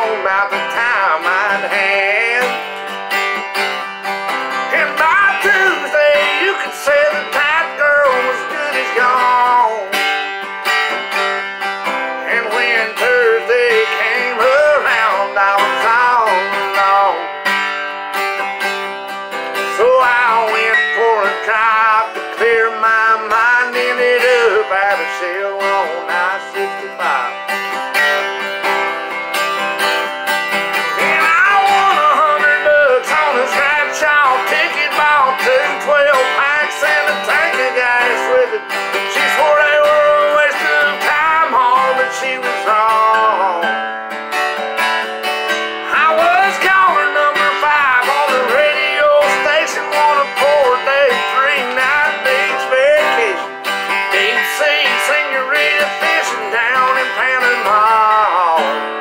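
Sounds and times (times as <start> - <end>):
man singing country song: 0.0 - 59.0
strummed acoustic guitar: 0.0 - 59.0.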